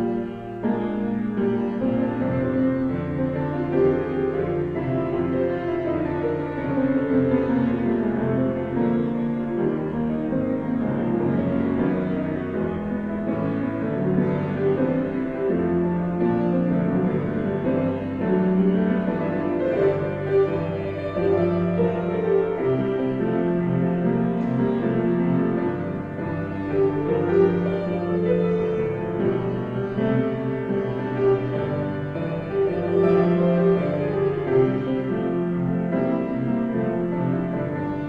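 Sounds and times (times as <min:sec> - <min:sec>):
slow keyboard music: 0:00.0 - 0:38.0.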